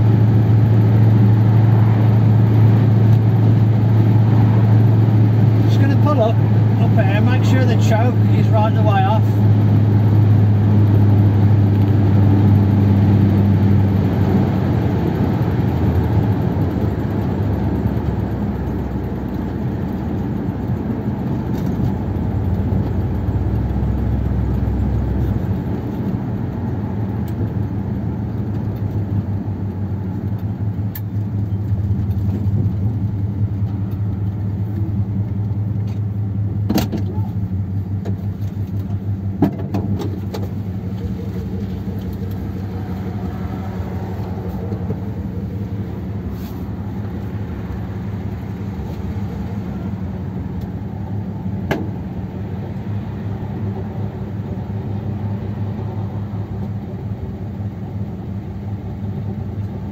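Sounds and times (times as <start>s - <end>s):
car engine running: 0.0s - 59.9s
road noise: 0.0s - 59.9s.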